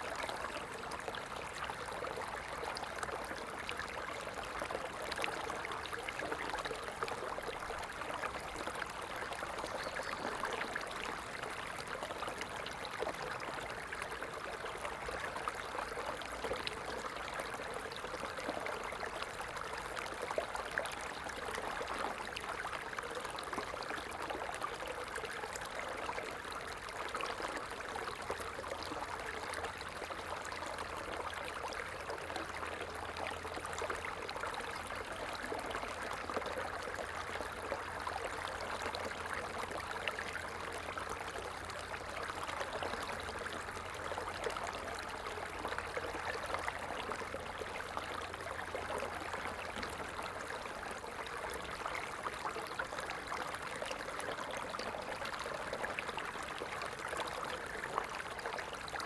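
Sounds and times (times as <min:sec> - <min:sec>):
stream of water trickling: 0:00.0 - 0:59.0.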